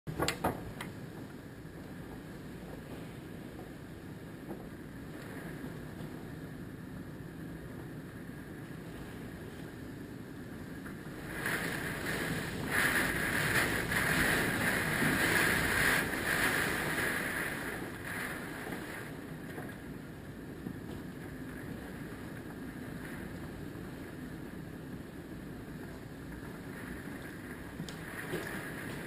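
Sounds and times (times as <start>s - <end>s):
strong wind blowing: 1.6s - 29.0s.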